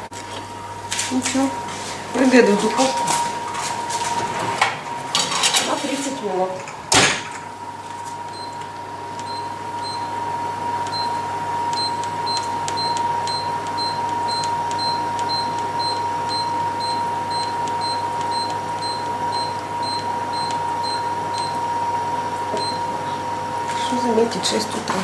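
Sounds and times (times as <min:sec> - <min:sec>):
oven whine: 0:00.0 - 0:25.0.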